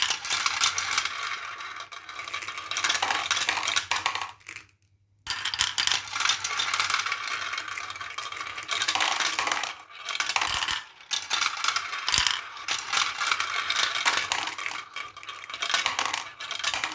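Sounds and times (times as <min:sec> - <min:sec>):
marbles rolling and clattering: 0:00.0 - 0:16.9.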